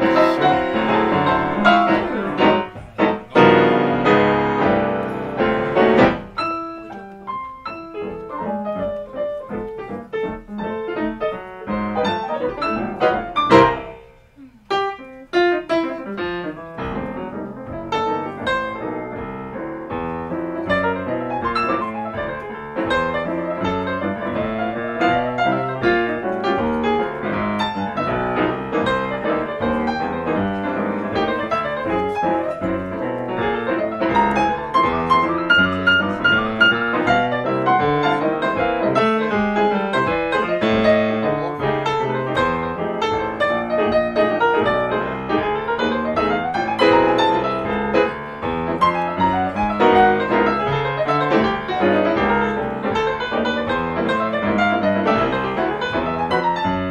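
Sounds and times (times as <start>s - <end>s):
jazz piano duet: 0.0s - 56.9s.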